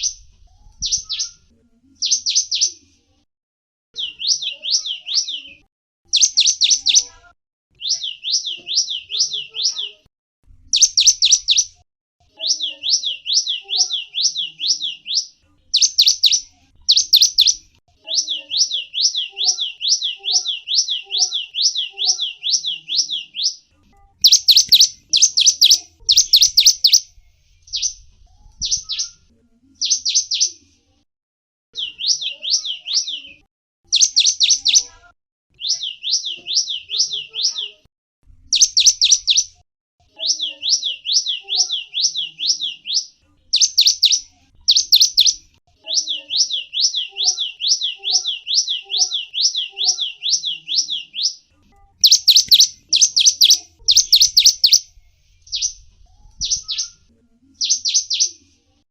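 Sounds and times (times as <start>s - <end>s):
songbird singing: 0.0s - 2.8s, 4.0s - 10.0s, 10.7s - 30.6s, 31.8s - 37.8s, 38.5s - 39.6s, 40.2s - 58.4s.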